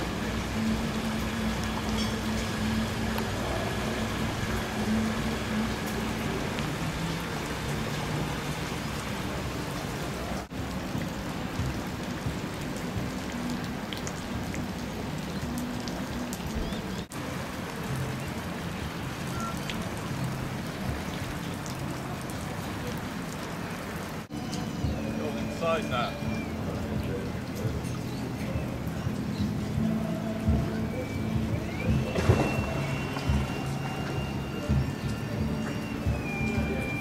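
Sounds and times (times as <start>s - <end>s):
rushing hiss of water: 0.0s - 37.0s.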